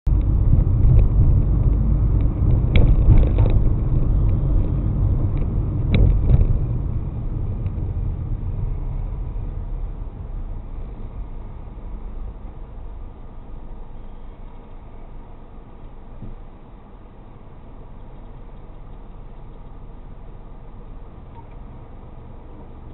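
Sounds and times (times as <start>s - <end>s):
road and engine rumble: 0.0s - 22.9s.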